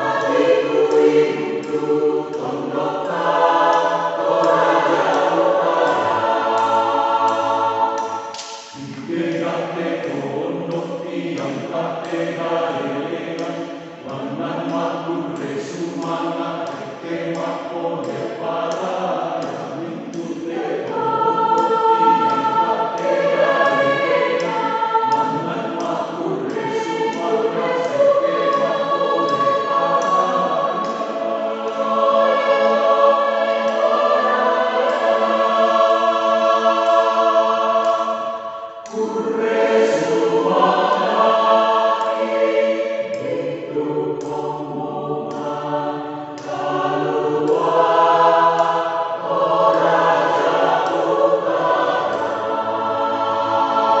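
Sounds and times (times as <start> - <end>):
low men's voices singing: 0.0 - 54.0
mixed choir singing: 0.0 - 54.0.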